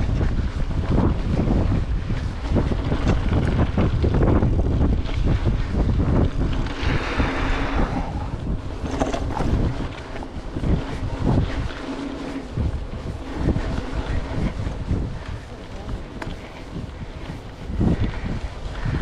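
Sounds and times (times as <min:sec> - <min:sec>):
low rumble: 0:00.0 - 0:19.0
wind buffeting microphone: 0:00.0 - 0:19.0.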